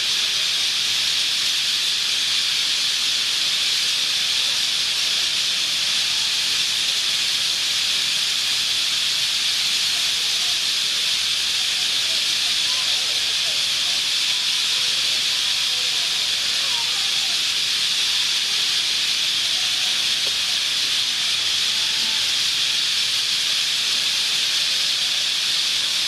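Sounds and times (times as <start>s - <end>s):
flock of birds calling: 5.0s - 26.0s.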